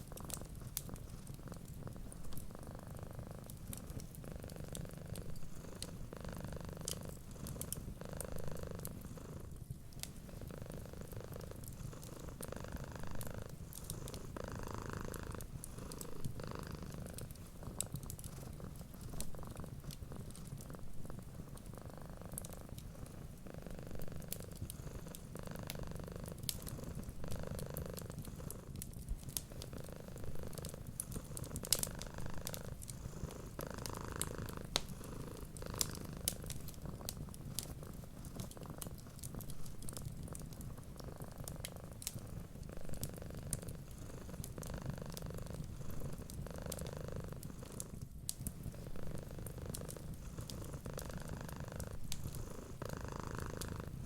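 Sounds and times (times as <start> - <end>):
wood fire crackling: 0.0 - 2.5, 3.4 - 5.9, 9.5 - 53.9
cat purring: 0.0 - 54.0.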